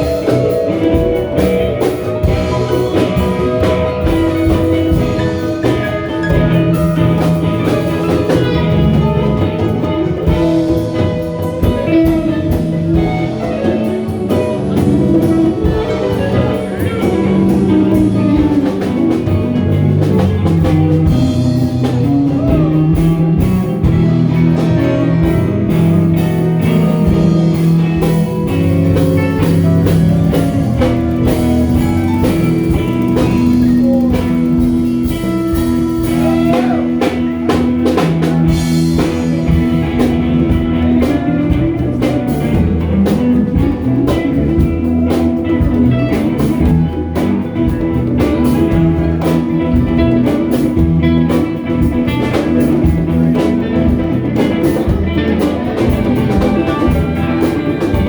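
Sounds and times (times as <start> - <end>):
band playing music: 0.0 - 58.0
guitar: 0.0 - 58.0
steady drum beat: 0.0 - 58.0.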